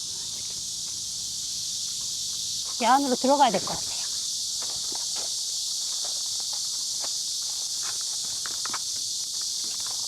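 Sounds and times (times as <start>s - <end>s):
cicadas singing: 0.0s - 10.0s.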